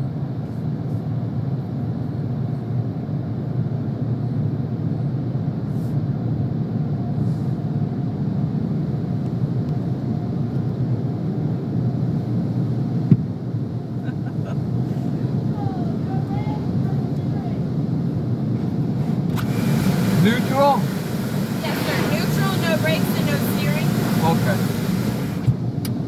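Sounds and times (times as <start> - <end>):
car rumble from inside cabin: 0.1 - 26.0.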